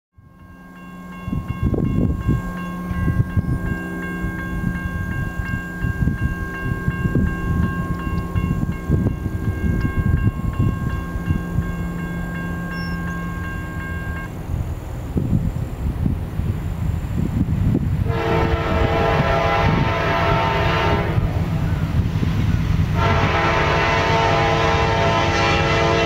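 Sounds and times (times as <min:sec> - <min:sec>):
railroad crossing bell ringing: 0:00.2 - 0:15.7, 0:18.1 - 0:26.0
low buffeting: 0:00.3 - 0:25.3.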